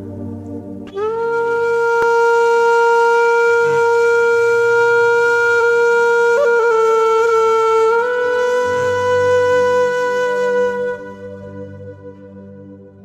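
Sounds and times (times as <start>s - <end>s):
wind instrument holding long note: 0.0s - 13.0s.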